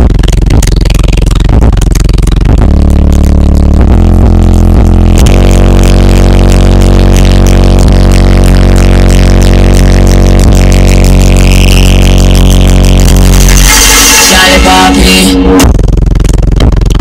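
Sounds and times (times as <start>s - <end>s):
loud deep bass music: 0.0s - 17.0s.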